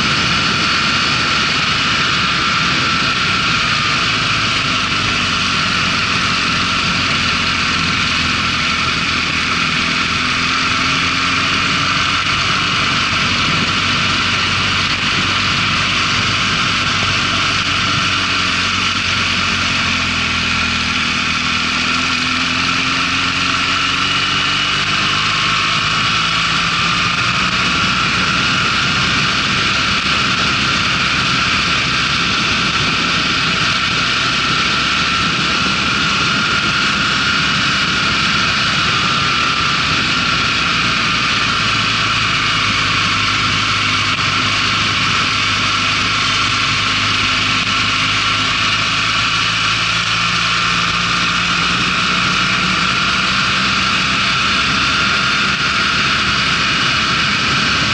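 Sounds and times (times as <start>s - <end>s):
motorcycle engine accelerating: 0.0s - 57.9s
wind over microphone: 0.0s - 57.9s.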